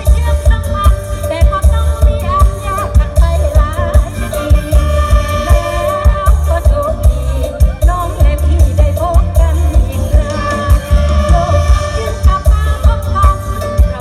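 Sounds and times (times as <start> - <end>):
live band music over pa: 0.0 - 14.0
ornamented lead melody: 0.0 - 14.0.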